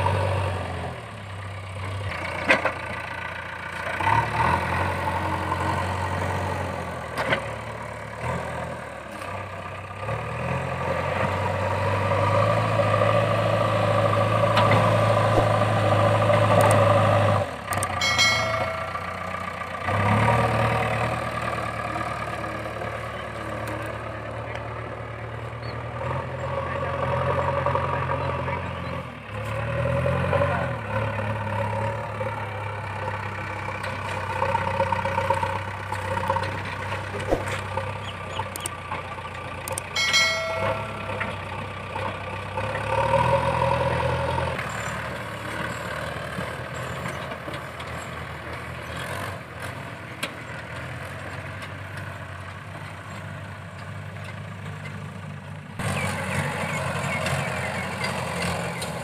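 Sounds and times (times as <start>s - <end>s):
backhoe diesel engine revving: 0.0s - 59.0s
tractor diesel engine pulling away: 0.0s - 59.0s.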